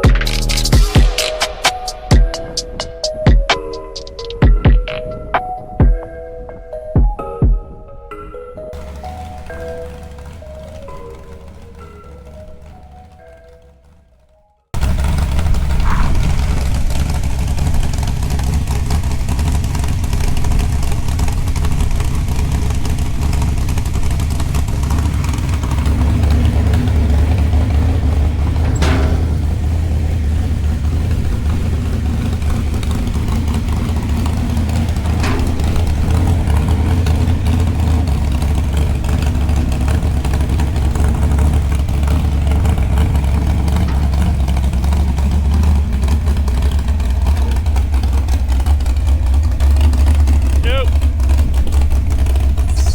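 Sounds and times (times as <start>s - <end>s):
truck engine rumbling: 0.0s - 52.9s.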